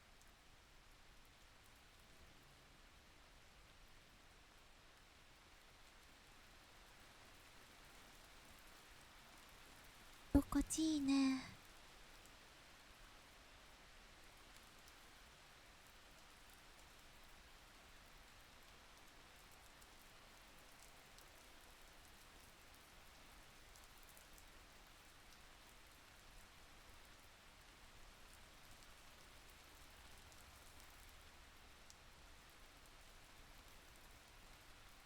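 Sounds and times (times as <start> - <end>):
faint steady rain: 0.0 - 35.0.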